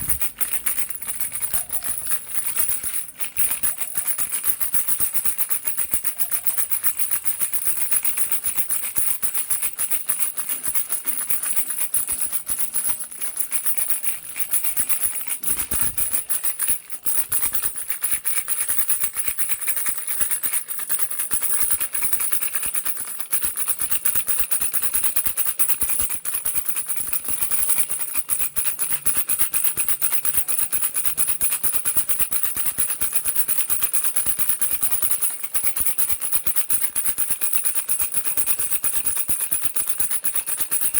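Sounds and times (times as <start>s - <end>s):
baby rattle shaken: 0.0s - 40.9s.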